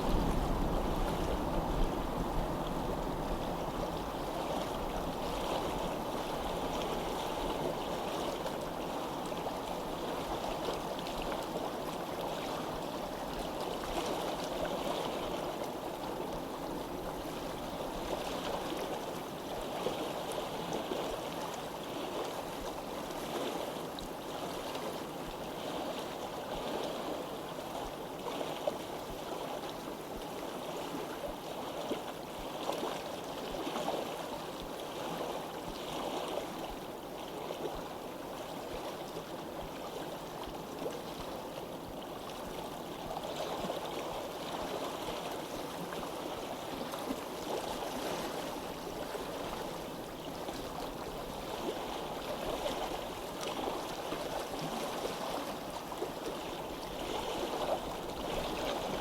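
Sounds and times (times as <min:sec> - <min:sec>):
stream water gurgling: 0:00.0 - 0:59.0.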